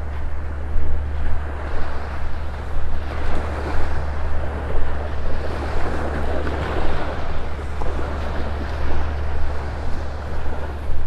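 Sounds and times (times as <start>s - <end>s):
waves washing onto shore: 0.0s - 11.0s
wind buffeting microphone: 0.0s - 11.0s.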